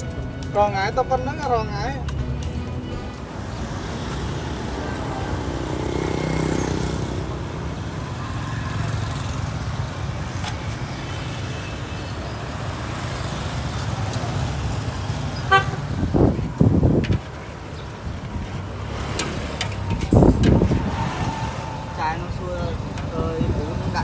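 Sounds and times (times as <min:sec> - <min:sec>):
low traffic rumble: 0:00.0 - 0:24.0
motorbike engines passing: 0:00.0 - 0:24.0.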